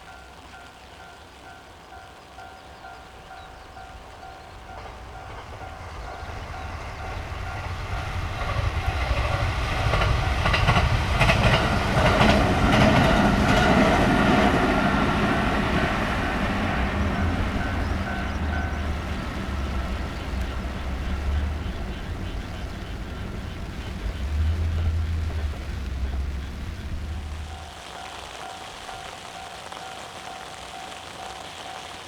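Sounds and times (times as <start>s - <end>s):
level crossing warning bell: 0.0s - 9.1s, 10.0s - 23.4s, 27.4s - 32.0s
train passing: 0.0s - 32.0s.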